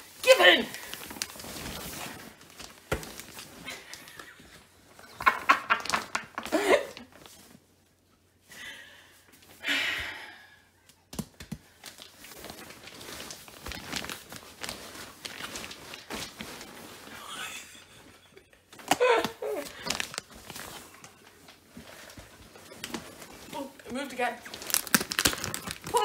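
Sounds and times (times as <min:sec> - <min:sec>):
plastic wrapping crinkling and scraping: 0:00.0 - 0:08.0, 0:11.6 - 0:26.0.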